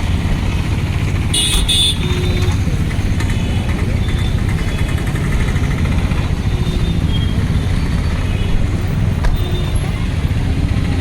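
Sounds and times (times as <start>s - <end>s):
engine rumbling steadily: 0.0s - 11.0s.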